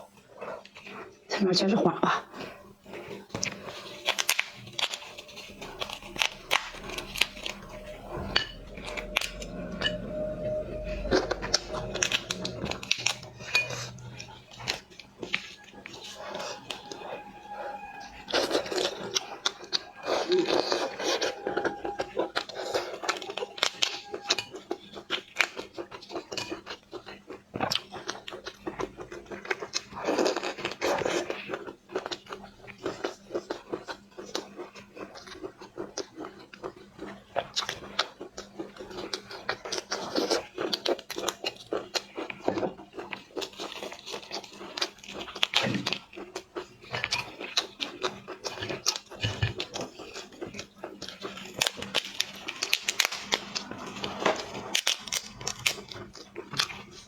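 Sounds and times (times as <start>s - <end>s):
crunching and chewing: 2.2s - 57.0s.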